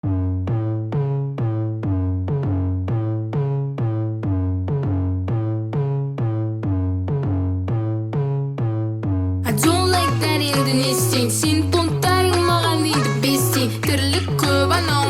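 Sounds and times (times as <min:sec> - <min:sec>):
steady electronic bass: 0:00.0 - 0:15.0
synth riff: 0:00.0 - 0:15.0.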